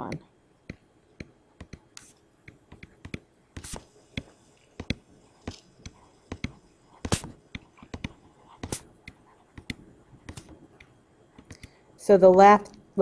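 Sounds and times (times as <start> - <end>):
stylus tapping and writing on tablet: 0.0 - 12.6.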